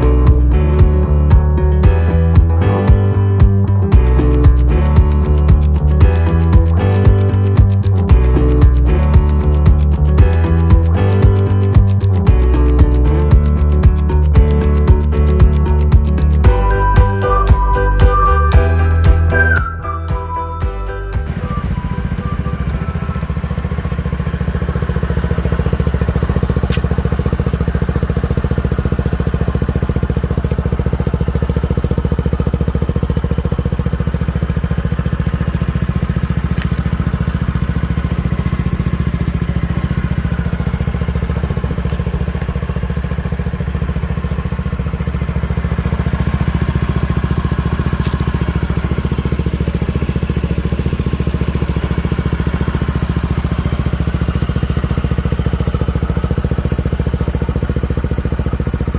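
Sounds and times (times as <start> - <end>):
scooter engine idling: 0.0 - 58.9.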